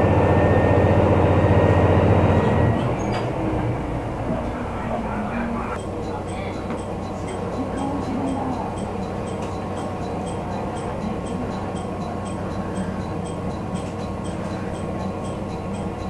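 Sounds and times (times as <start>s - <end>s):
train rumble and hum: 0.0s - 16.0s.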